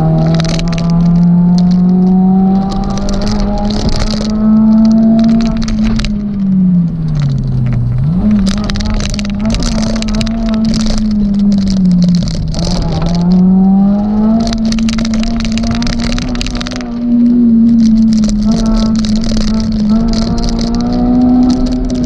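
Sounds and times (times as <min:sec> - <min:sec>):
car engine pulling hard: 0:00.0 - 0:22.0
sharp clattering: 0:00.1 - 0:22.0.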